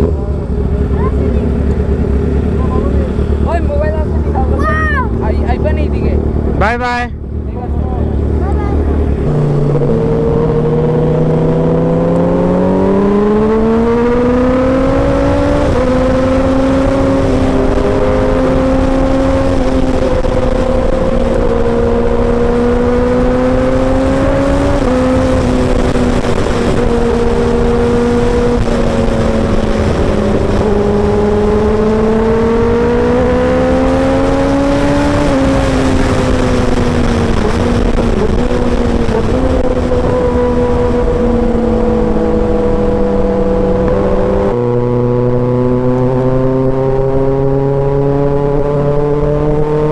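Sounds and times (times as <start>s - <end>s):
motorcycle engine under way: 0.0s - 49.9s.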